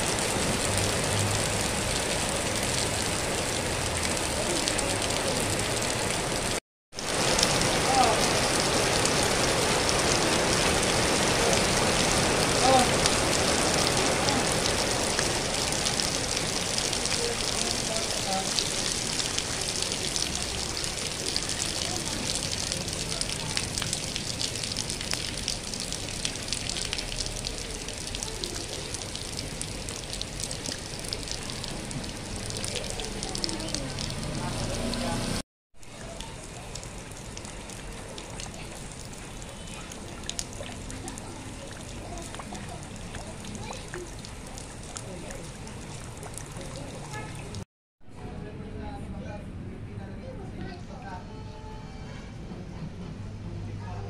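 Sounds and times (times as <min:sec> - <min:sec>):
heavy rain on pavement: 0:00.0 - 0:47.7.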